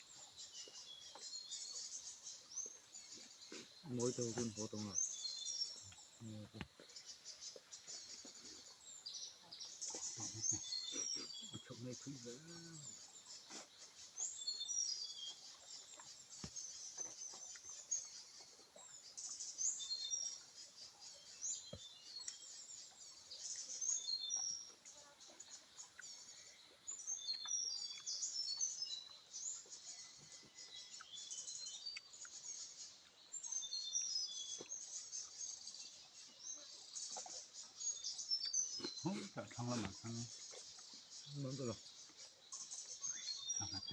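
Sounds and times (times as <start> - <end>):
small birds chirping and twittering: 0.0 - 43.9.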